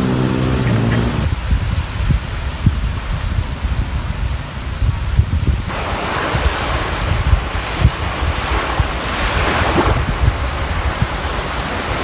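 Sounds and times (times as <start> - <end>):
wind buffeting microphone: 0.0 - 12.0
small waves breaking on sand: 1.3 - 12.0.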